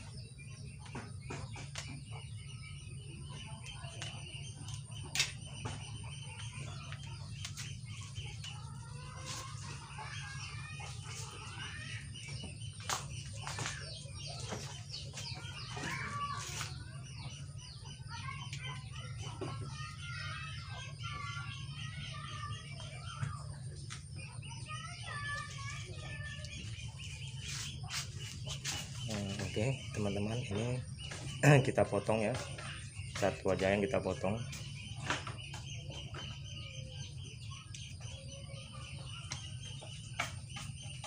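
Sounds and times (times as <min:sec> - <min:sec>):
chickens clucking: 0:00.0 - 0:41.0
small birds chirping: 0:00.0 - 0:41.0.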